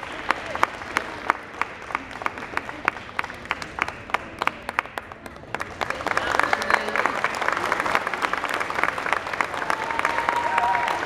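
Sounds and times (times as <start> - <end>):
audience applauding lightly: 0.0 - 11.0.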